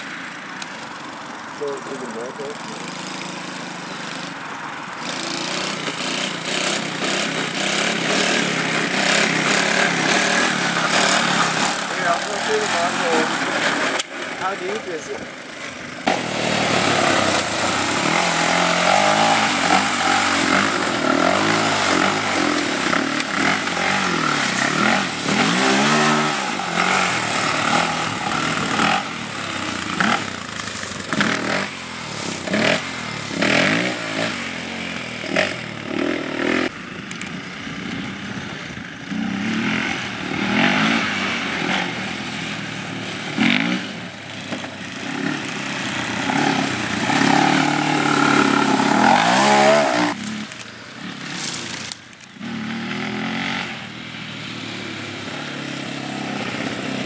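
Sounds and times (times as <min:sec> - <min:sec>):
quad engine revving: 0:01.6 - 0:04.4, 0:05.0 - 0:57.0.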